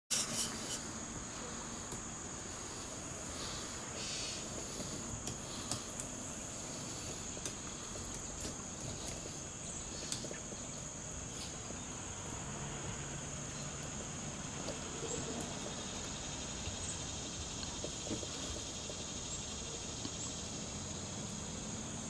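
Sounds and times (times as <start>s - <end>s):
insects chirping: 0.1s - 22.0s.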